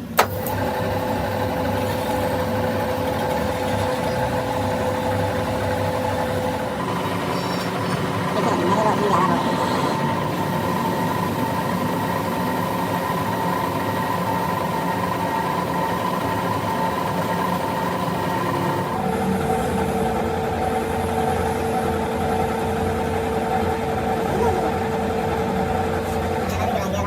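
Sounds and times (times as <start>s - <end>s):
machine running with held tone: 0.0s - 27.0s.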